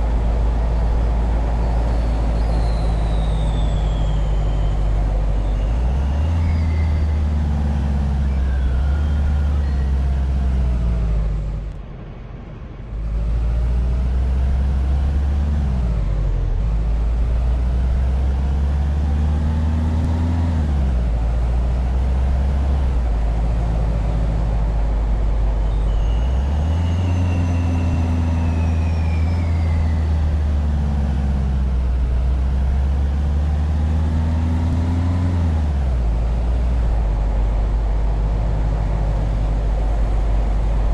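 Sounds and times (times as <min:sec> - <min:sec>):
vehicle engine revving: 0:00.0 - 0:11.8, 0:13.0 - 0:40.9.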